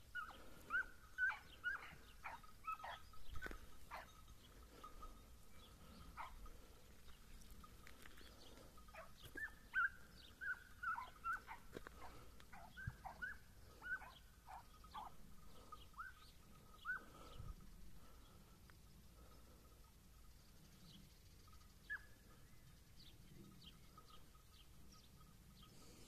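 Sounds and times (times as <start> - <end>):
hounds baying: 0.0 - 17.4, 21.4 - 26.0.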